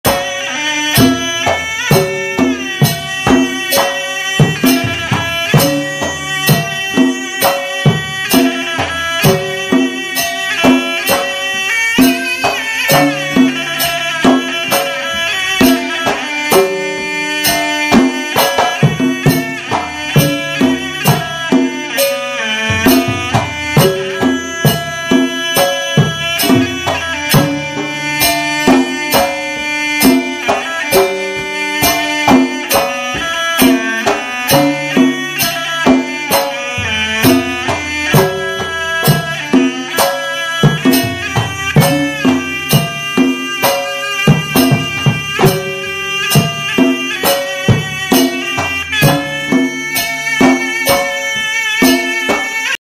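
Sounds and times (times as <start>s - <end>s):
steady drum beat: 0.0s - 52.8s.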